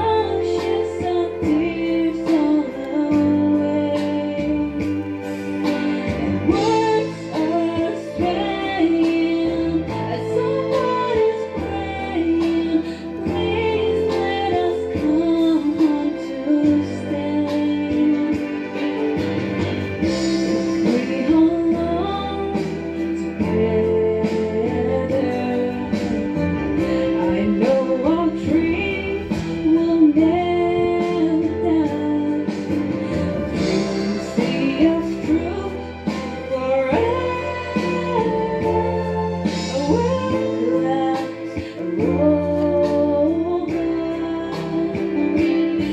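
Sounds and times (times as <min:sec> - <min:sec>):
instrumental backing music: 0:00.0 - 0:45.9
woman singing into microphone: 0:00.0 - 0:45.9.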